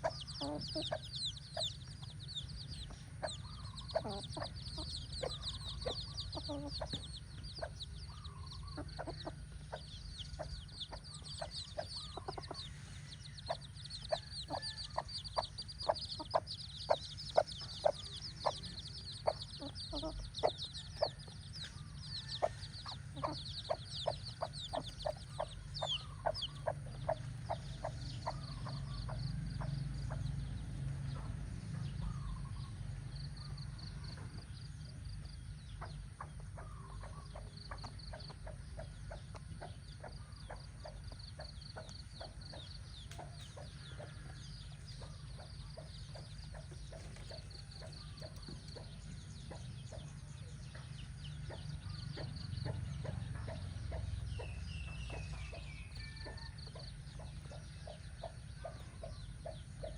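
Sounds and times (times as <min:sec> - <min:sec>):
hen clucking: 0:00.0 - 0:31.4, 0:35.1 - 0:59.9
chicks peeping: 0:00.0 - 0:59.9.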